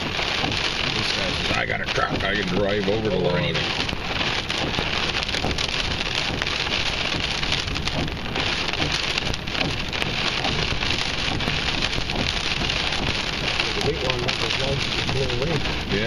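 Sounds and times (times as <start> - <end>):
heavy rain pattering: 0.0 - 16.0.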